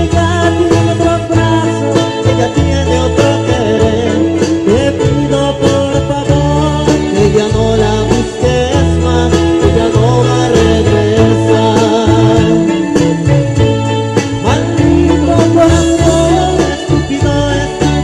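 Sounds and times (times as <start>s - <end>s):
deep sustained bass notes: 0.0s - 18.0s
electric guitar: 0.0s - 18.0s
electronic keyboard melody: 0.0s - 18.0s
percussion beat: 0.0s - 18.0s.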